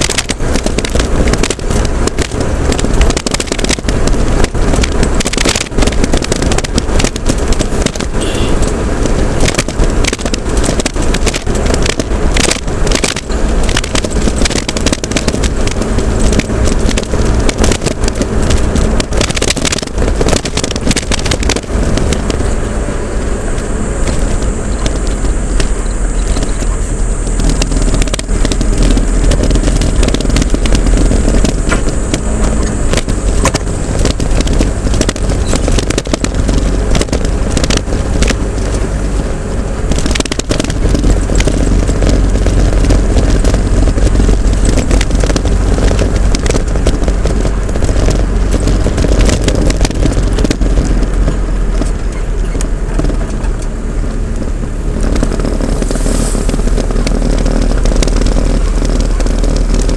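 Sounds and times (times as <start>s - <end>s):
crackling knocks and rattles: 0.0s - 59.9s
vehicle engine rumbling: 0.0s - 59.9s.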